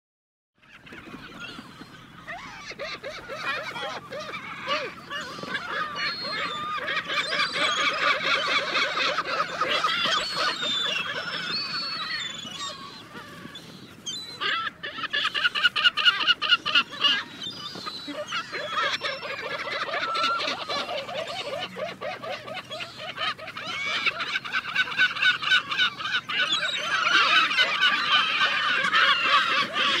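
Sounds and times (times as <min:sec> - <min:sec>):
flock of birds calling: 0:00.6 - 0:30.0.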